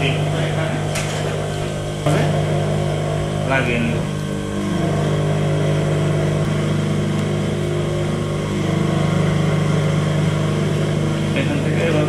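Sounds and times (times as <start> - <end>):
sewing machine humming: 0.0 - 12.0.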